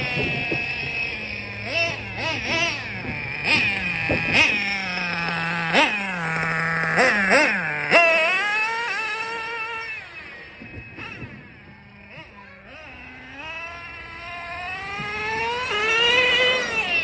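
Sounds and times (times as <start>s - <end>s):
model nitro engine revving: 0.0s - 17.0s.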